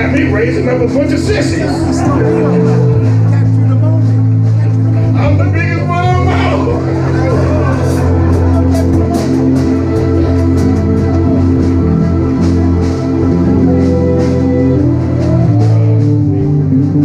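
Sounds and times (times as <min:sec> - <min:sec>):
sustained keyboard chords: 0:00.0 - 0:17.0.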